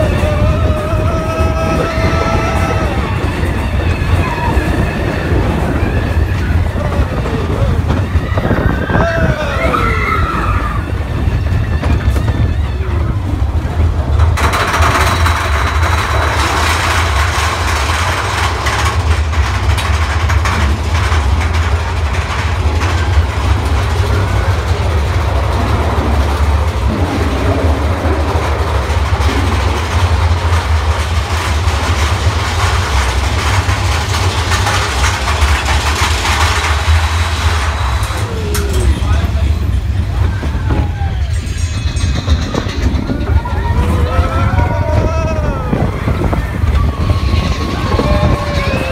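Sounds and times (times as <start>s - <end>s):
roller coaster cars rumbling: 0.0s - 48.9s
rushing rattle: 0.0s - 48.9s.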